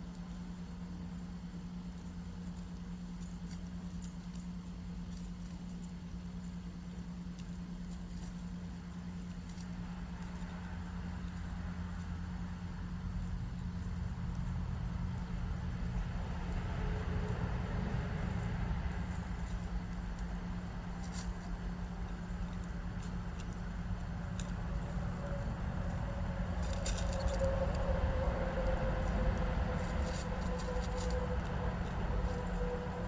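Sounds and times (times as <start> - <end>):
faint hum: 0.0 - 33.0
low background rumble: 0.0 - 33.0.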